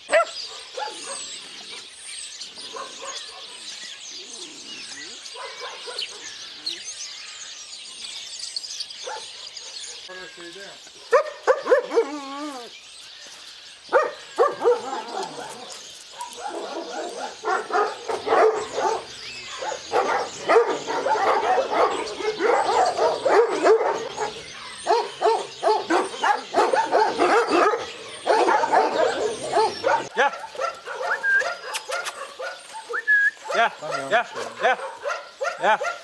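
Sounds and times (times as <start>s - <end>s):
dogs and puppies barking: 0.0s - 6.8s, 9.0s - 10.3s, 10.9s - 12.7s, 13.9s - 36.0s.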